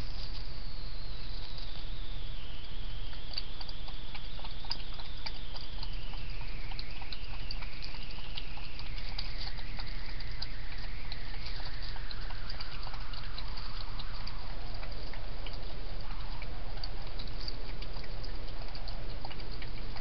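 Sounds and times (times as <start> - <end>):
faint electronic whine: 0.0 - 20.0
steady hiss: 0.0 - 20.0.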